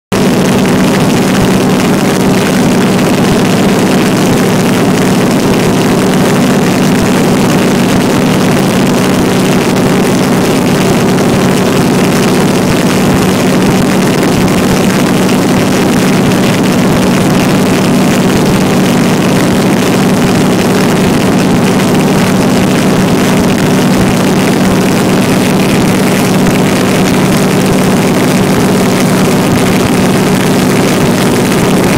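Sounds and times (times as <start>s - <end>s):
aircraft engine droning: 0.1s - 31.9s
rushing air in cabin: 0.2s - 31.9s.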